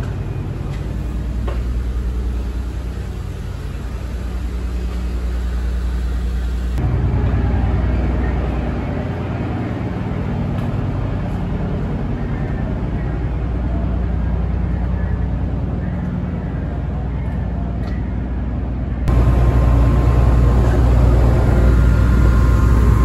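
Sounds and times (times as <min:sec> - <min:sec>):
ship engines droning: 0:00.0 - 0:23.0.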